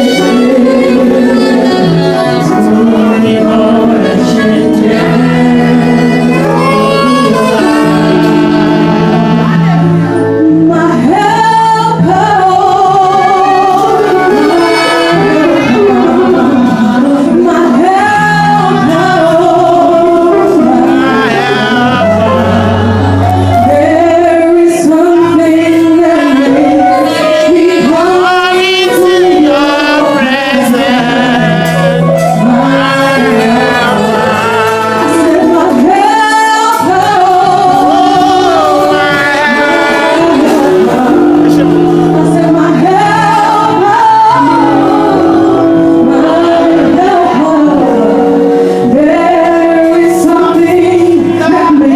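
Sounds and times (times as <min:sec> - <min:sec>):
sustained low instrumental notes: 0:00.0 - 0:51.9
voices singing a church song: 0:00.0 - 0:51.9.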